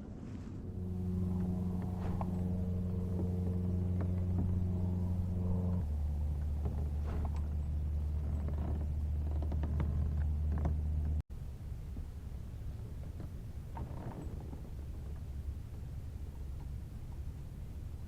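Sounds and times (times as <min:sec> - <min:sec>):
low motor hum: 0:00.0 - 0:18.0.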